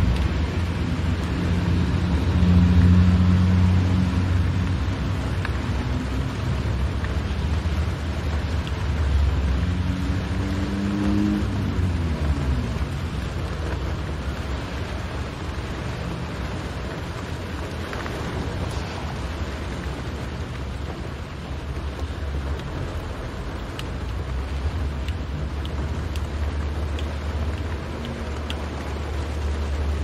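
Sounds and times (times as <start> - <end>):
car road and engine rumble: 0.0 - 30.0
wet road hiss: 0.0 - 30.0.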